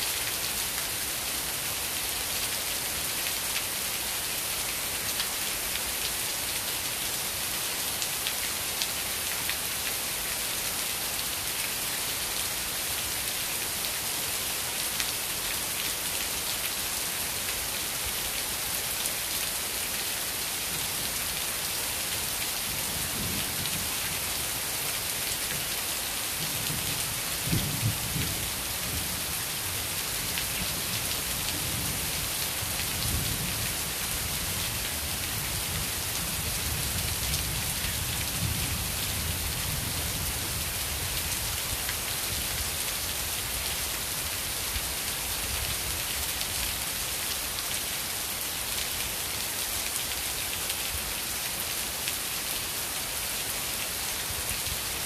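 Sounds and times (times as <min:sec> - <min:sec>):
heavy rain on paving and foliage: 0:00.0 - 0:55.0.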